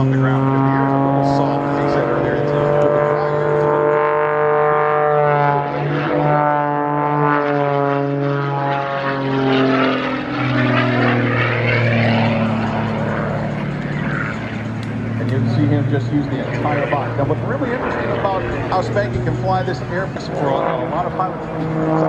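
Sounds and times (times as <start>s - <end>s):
propeller plane engine running hard: 0.0s - 22.0s.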